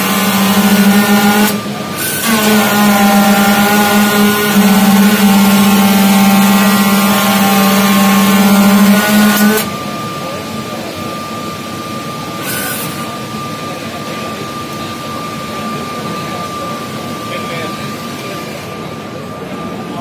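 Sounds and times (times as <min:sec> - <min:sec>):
cutting machine humming: 0:00.0 - 0:20.0
quiet steady whine: 0:00.0 - 0:20.0.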